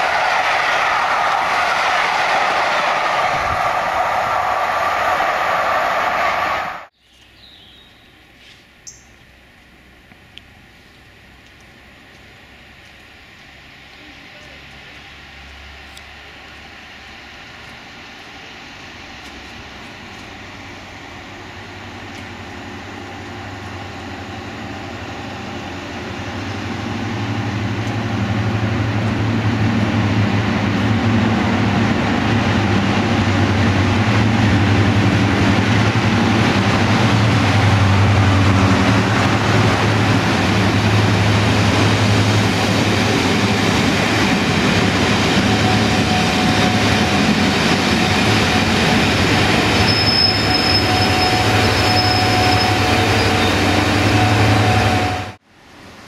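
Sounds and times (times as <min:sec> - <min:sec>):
train passing: 0:00.0 - 0:07.0, 0:08.0 - 0:56.0.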